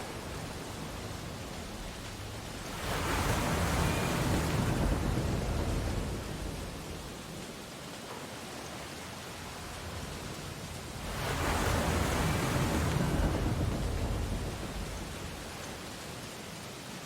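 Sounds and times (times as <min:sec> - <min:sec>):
ocean waves on beach: 0:00.0 - 0:17.0.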